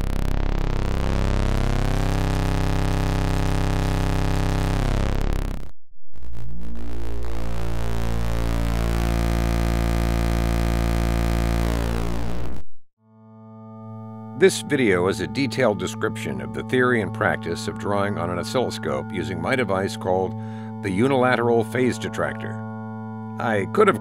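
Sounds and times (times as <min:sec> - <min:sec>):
synthetic tone with overtones: 0:00.0 - 0:12.6, 0:14.3 - 0:24.0.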